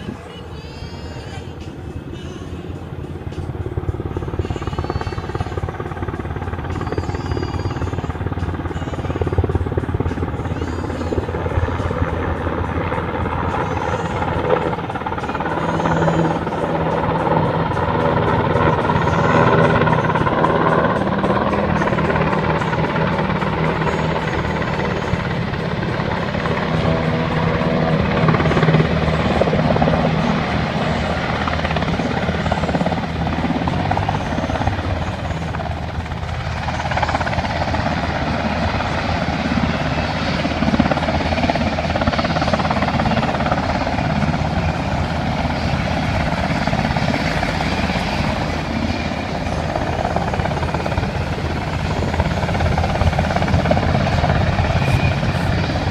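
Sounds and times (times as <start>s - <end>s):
helicopter rotor beating: 0.0s - 55.9s.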